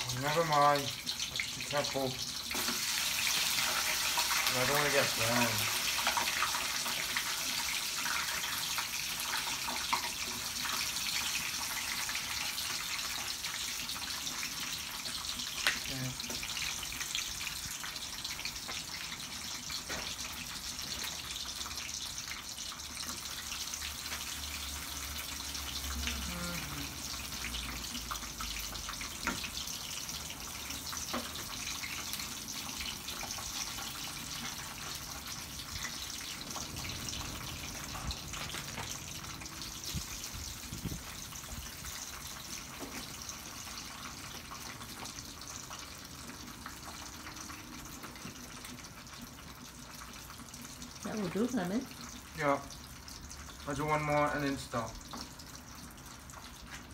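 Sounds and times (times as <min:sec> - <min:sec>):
chips sizzling in oil: 0:00.0 - 0:56.9.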